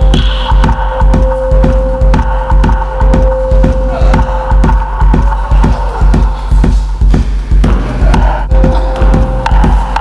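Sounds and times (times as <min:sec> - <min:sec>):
dance music with heavy beat: 0:00.0 - 0:10.0.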